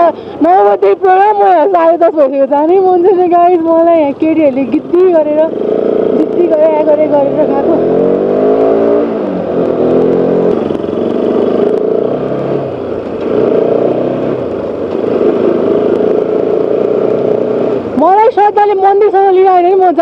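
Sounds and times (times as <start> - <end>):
wind and road noise: 0.0 - 20.0
motorcycle engine revving: 2.8 - 20.0.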